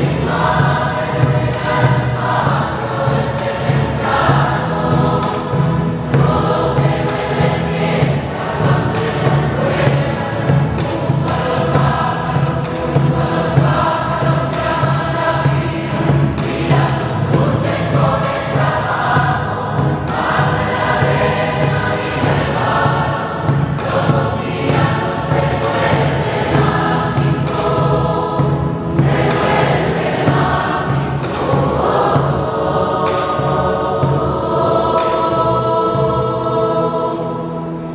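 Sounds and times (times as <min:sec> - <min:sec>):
guitars strumming: 0:00.0 - 0:37.9
mixed choir singing a hymn: 0:00.0 - 0:37.9.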